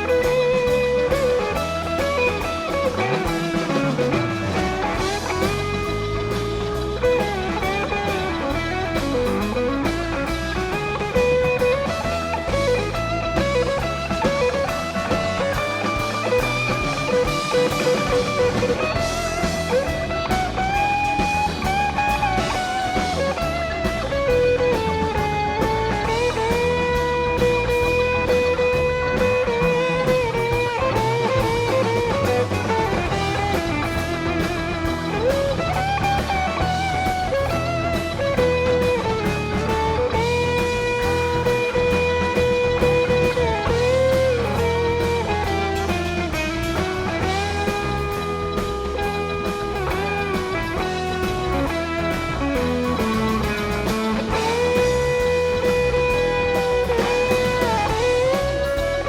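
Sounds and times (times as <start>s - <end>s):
electric guitar lead lines: 0.0s - 59.0s
rock band playing: 0.0s - 59.0s.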